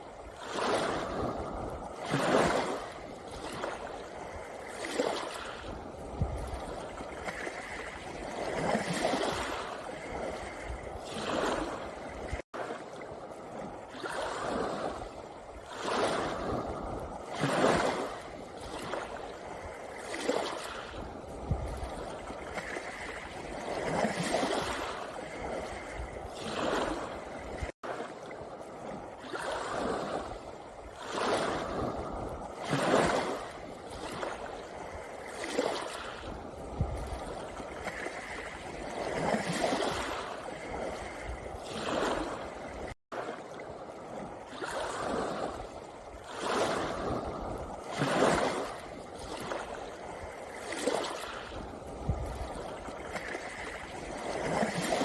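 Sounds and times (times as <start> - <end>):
waves washing over pebbles: 0.0 - 55.0.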